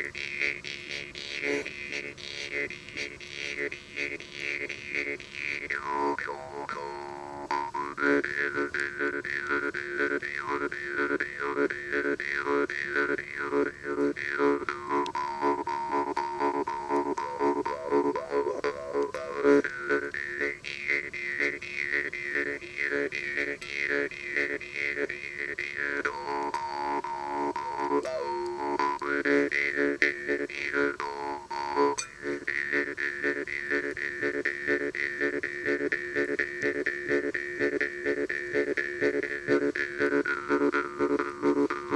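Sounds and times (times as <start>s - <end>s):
jaw harp playing: 0.0s - 41.9s.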